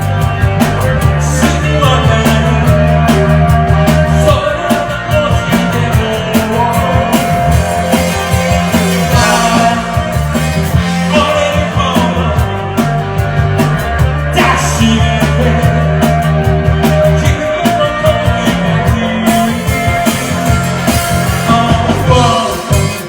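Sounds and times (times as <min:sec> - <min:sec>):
bass guitar: 0:00.0 - 0:23.0
electric guitar: 0:00.0 - 0:23.0
steady drum beat: 0:00.0 - 0:23.0.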